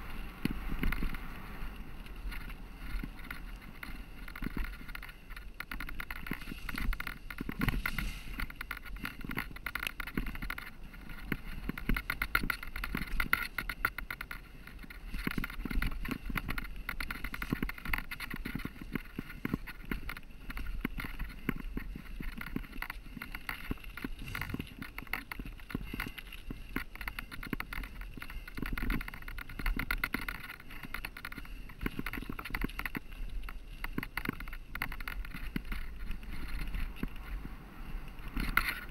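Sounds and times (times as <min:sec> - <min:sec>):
tyres crunching on gravel: 0:00.0 - 0:37.4
bike rattling and clattering: 0:00.0 - 0:38.9.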